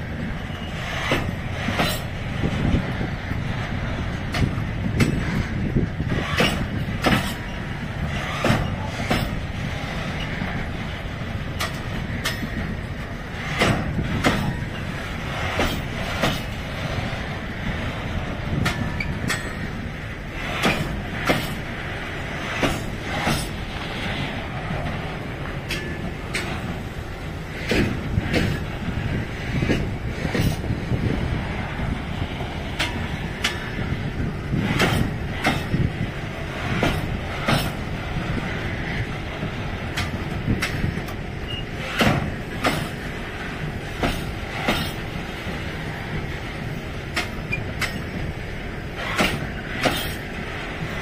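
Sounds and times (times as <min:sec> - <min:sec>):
freight train rumbling: 0:00.0 - 0:51.0
train wheel clacks over rails: 0:00.0 - 0:51.0.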